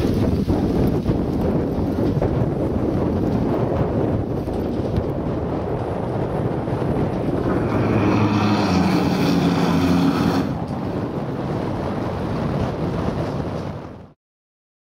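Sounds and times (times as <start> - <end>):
iceboat runners humming on ice: 0.0 - 13.6
wind buffeting microphone: 0.0 - 14.2.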